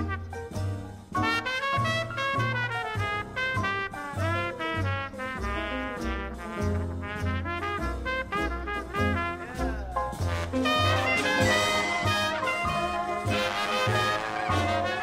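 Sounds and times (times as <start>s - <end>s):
lively brass music: 0.0s - 15.0s.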